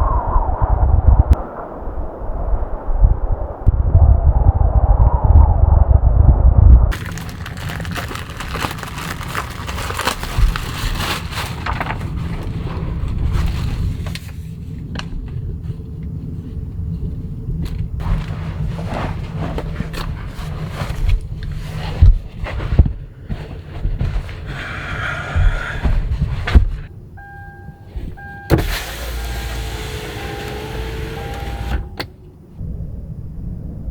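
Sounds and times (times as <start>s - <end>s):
wind buffeting microphone: 0.0s - 27.2s.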